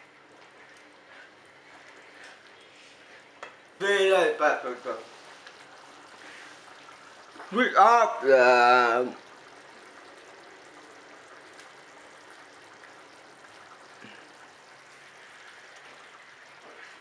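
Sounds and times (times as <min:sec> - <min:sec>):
sauce bubbling in a pan: 0:00.0 - 0:17.0.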